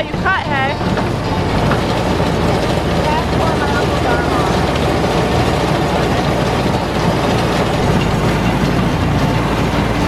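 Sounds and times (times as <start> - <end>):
tractor and hay mower engine drone: 0.0 - 10.0.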